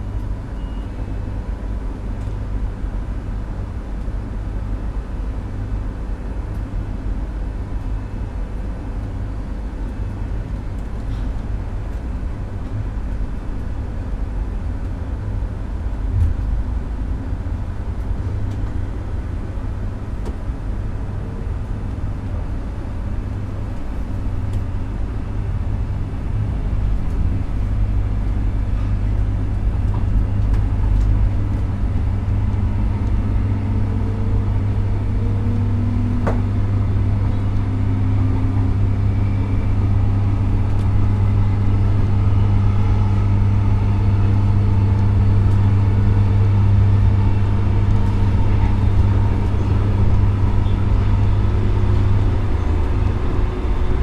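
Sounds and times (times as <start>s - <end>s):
rumble of passing vehicles: 0.0s - 54.0s.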